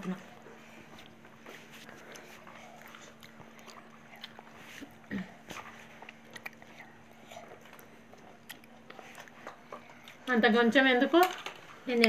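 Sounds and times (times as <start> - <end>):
faint steady hum: 0.0 - 12.0
people chewing and eating: 0.0 - 12.0.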